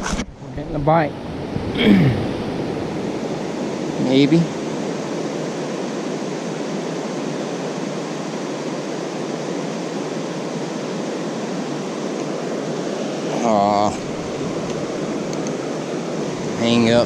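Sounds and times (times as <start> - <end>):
river rapids and waterfall rushing: 0.8 - 17.0.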